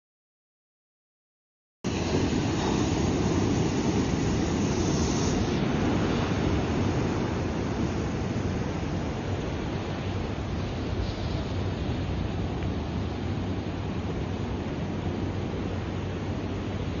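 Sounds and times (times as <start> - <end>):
breaking waves: 1.9 - 17.0.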